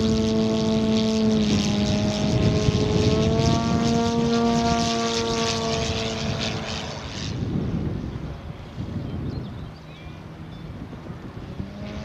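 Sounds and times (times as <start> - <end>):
model plane propeller drone: 0.0 - 12.0.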